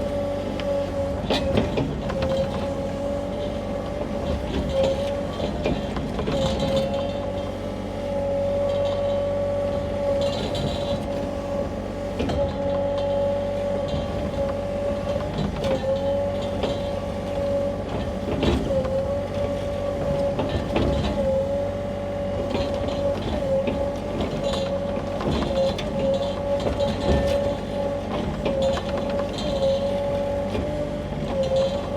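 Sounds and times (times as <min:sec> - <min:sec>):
hydraulic whine: 0:00.0 - 0:31.9
mini excavator engine running: 0:00.0 - 0:31.9.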